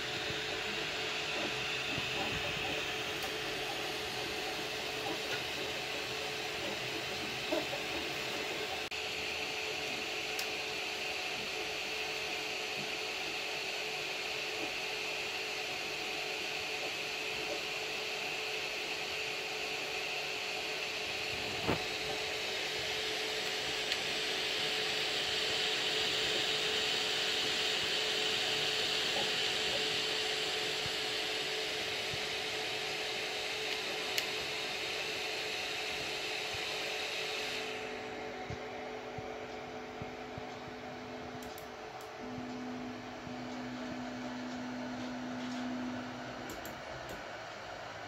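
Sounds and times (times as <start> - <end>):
cooling fans whirring: 0.0 - 48.0
steady hum: 0.0 - 48.0.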